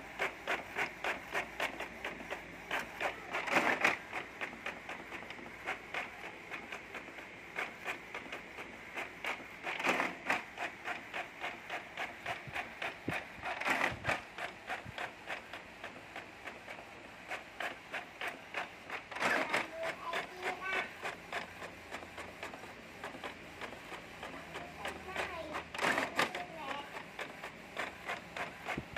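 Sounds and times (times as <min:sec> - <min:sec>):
printer paper feed: 0:00.0 - 0:28.9.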